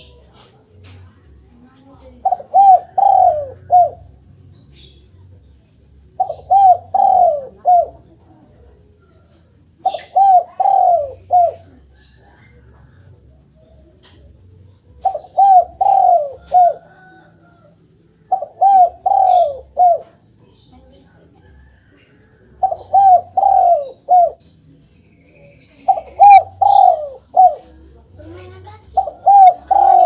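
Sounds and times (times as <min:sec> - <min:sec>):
dove cooing: 0:00.0 - 0:04.3, 0:05.8 - 0:30.0.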